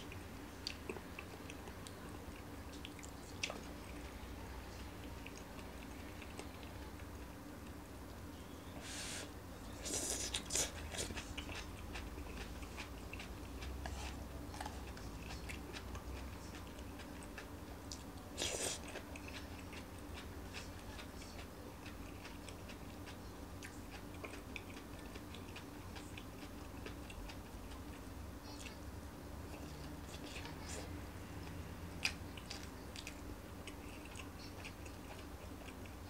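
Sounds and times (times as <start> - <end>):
person chewing food: 0.0 - 8.0, 8.8 - 28.8, 29.4 - 36.0.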